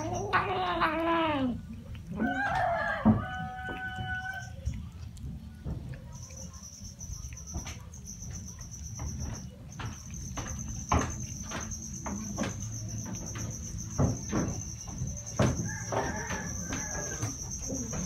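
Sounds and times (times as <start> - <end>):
cats chewing wetly: 0.0 - 18.0
cricket trilling: 0.0 - 18.0.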